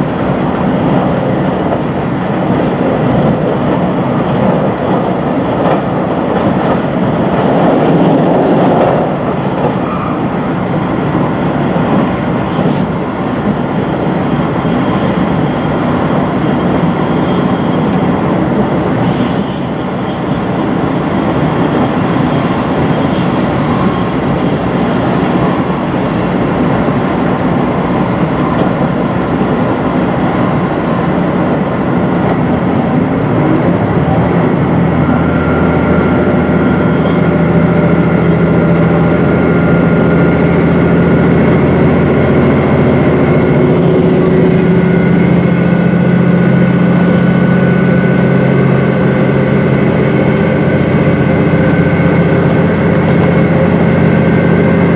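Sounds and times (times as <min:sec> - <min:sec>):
diesel engine drone: 0:00.0 - 0:54.9
train wheels rumbling on rails: 0:00.0 - 0:54.9.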